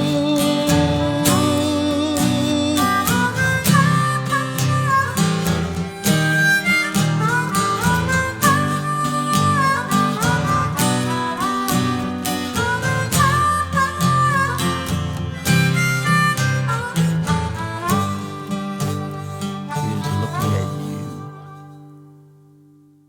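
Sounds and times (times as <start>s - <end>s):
harmonica melody: 0.0s - 22.5s
strummed acoustic guitar: 0.0s - 23.0s.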